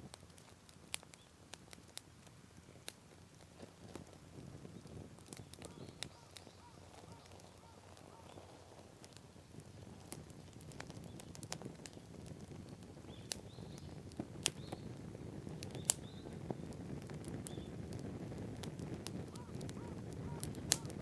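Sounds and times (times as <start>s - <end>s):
campfire crackling and popping: 0.0s - 21.0s
low rushing of flames: 0.0s - 21.0s.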